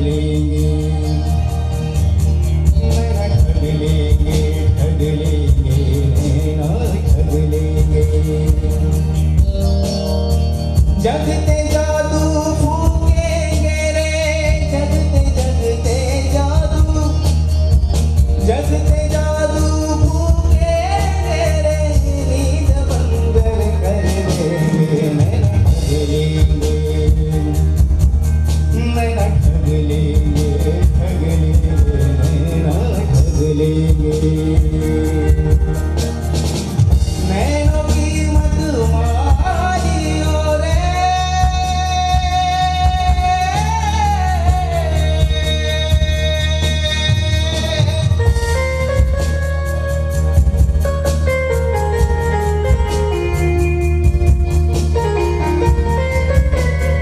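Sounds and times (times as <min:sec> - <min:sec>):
man singing into microphone: 0:00.0 - 0:49.4
backing music with beat: 0:00.0 - 0:57.0.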